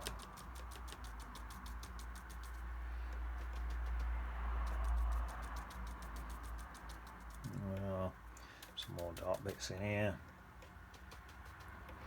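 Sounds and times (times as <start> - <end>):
paintbrush brushing on paper: 0.0 - 9.8, 10.6 - 12.0.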